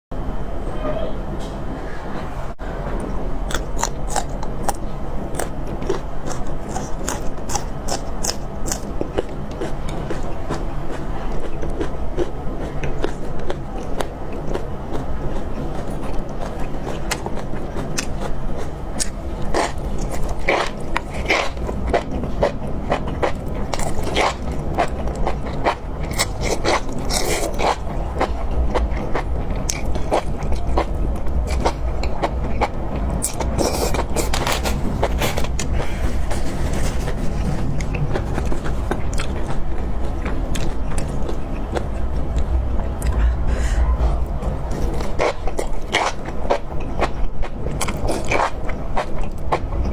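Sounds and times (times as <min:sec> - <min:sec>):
close-miked chewing: 0:03.0 - 0:49.9
crunchy crackles of food: 0:03.4 - 0:42.6, 0:44.8 - 0:49.9.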